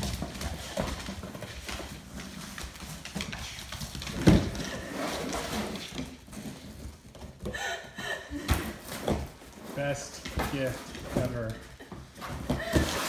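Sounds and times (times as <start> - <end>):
cardboard rustling and scraping: 0.0 - 7.4, 8.6 - 13.0.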